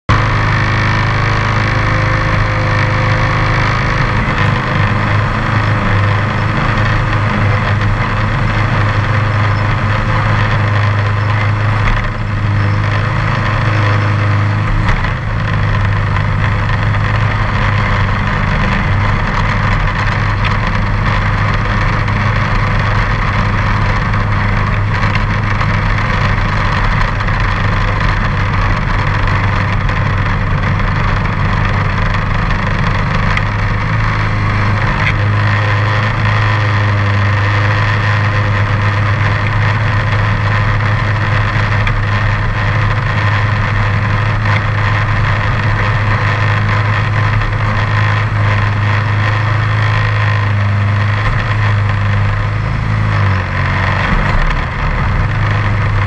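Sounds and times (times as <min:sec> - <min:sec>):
lawn tractor engine running: 0:00.1 - 0:56.0.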